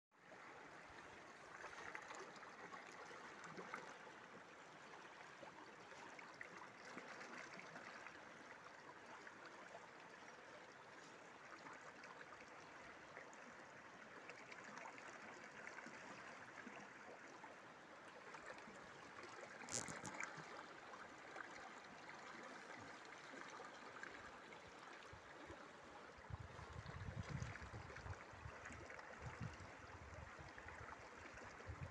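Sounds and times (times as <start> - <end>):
stream burbling over stones: 0.2 - 31.9.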